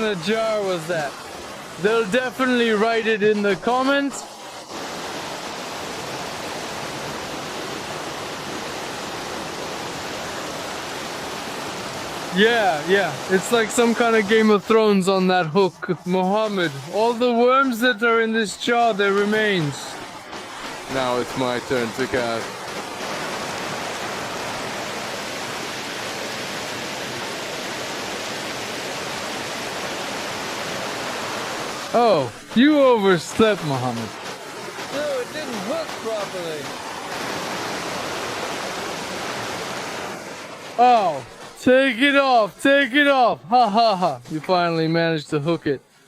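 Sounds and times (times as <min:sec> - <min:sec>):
river rushing: 0:00.0 - 0:46.0.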